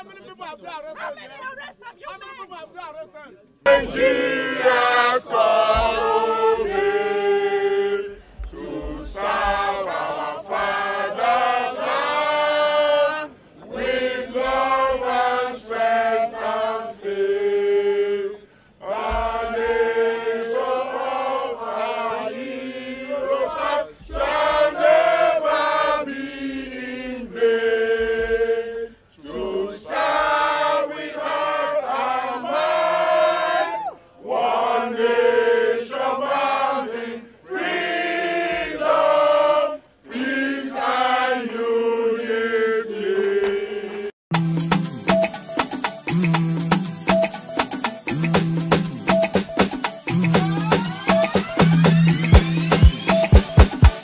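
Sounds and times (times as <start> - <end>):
crowd singing in unison: 3.6 - 44.2, 49.1 - 54.0.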